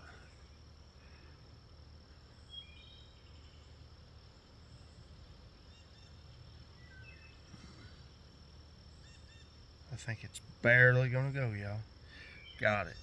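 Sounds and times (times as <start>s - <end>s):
faint bird chirps: 0.0s - 1.4s, 2.0s - 11.2s, 12.0s - 13.0s
high insect trill: 0.0s - 13.0s.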